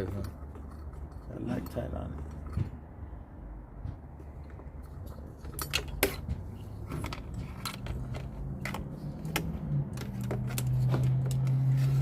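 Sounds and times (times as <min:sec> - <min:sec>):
metal parts and tools clinking: 0:00.0 - 0:02.7, 0:04.4 - 0:12.0.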